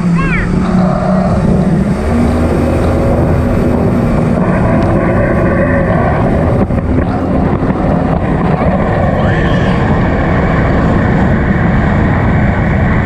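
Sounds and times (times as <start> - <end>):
jet ski engine drone: 0.0 - 13.0.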